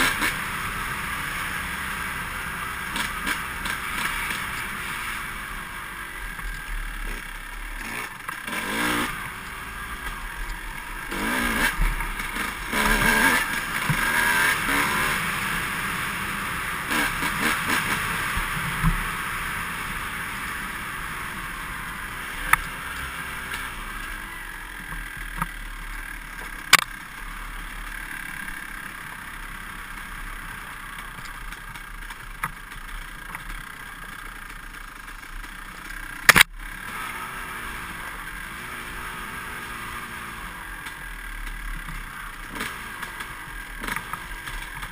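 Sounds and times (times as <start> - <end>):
dirt bike engine revving: 0.0 - 31.0, 33.2 - 44.9.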